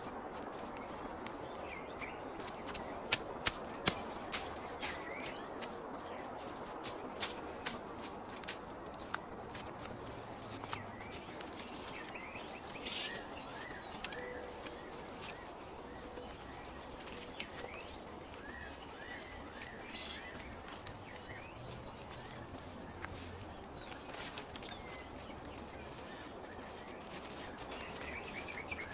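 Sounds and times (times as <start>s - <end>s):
small birds chirping: 0.0s - 28.9s
steady background hiss: 0.0s - 28.9s.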